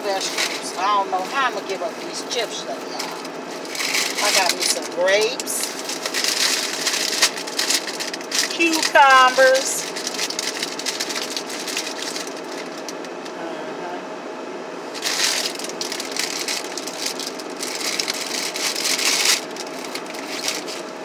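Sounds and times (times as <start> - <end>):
plastic bags crinkling: 0.1 - 0.8, 2.9 - 13.3, 14.9 - 21.0.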